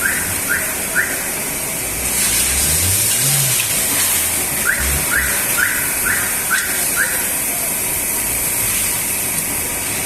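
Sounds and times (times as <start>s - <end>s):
brake squeaking chirps: 0.0s - 9.0s
rushing noise with low rumble: 0.0s - 10.0s.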